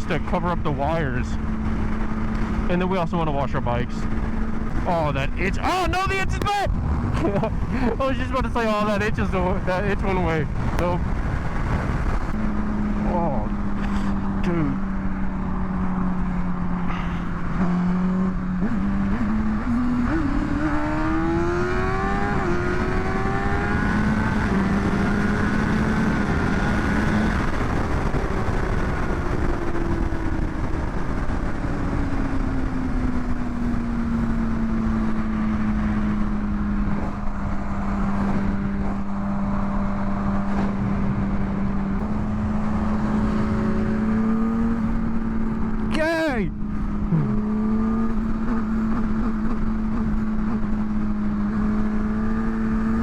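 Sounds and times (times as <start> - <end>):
wind rush on microphone: 0.0 - 45.9
motorcycle engine accelerating: 0.0 - 53.0.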